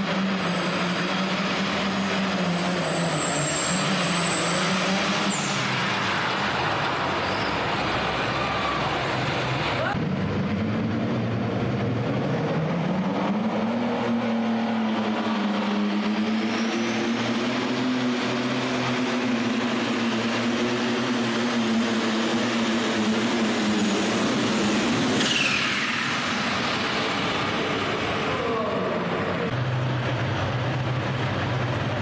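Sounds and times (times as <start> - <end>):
diesel engine at full power: 0.0 - 32.0.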